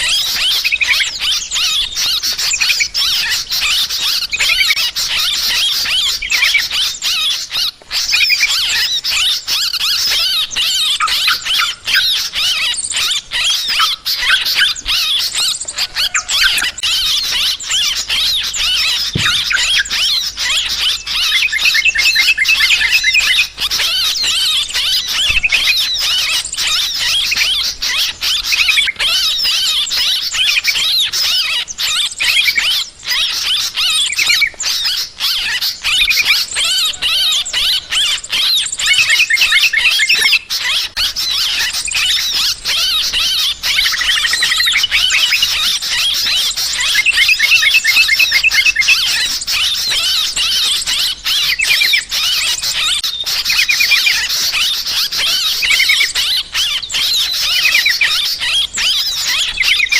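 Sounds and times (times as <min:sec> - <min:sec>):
bulbuls chattering in chorus: 0:00.0 - 0:59.9.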